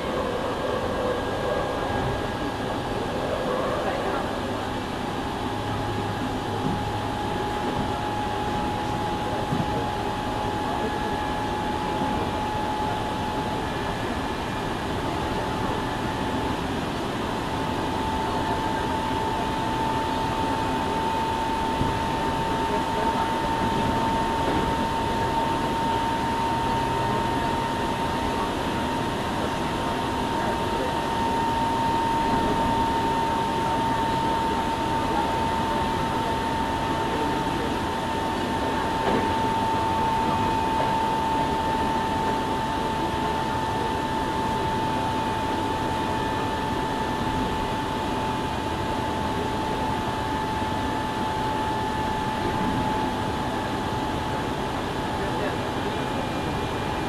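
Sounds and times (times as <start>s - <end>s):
train car interior noise: 0.0s - 57.0s.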